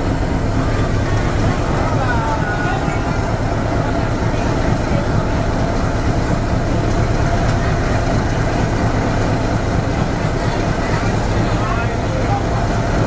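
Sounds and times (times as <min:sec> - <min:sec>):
diesel locomotive engine drone: 0:00.0 - 0:13.0
rumble of passenger coaches: 0:00.0 - 0:13.0.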